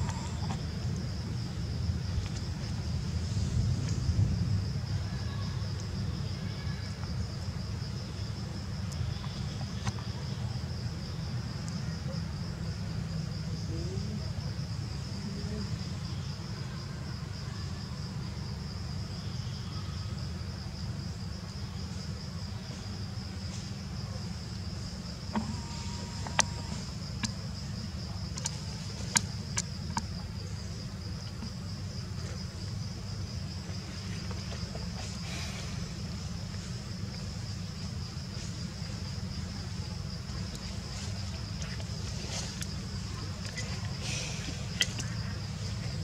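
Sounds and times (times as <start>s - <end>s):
high-pitched insect chorus: 0.0s - 46.0s
low steady rumble: 0.0s - 46.0s.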